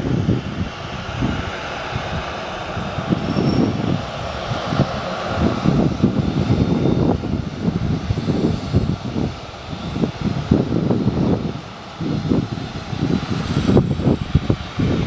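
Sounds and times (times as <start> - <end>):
jet engines whining and rumbling: 0.0 - 15.0.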